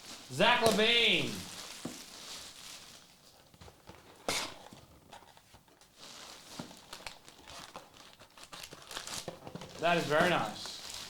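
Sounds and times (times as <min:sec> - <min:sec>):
cards and packaging rustling: 0:00.0 - 0:11.0.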